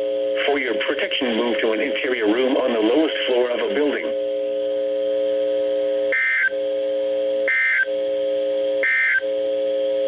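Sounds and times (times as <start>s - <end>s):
steady low droning tone: 0.0s - 10.0s.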